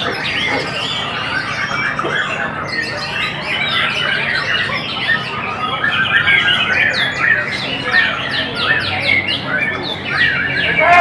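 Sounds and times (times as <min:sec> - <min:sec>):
chorus of songbirds: 0:00.0 - 0:11.0.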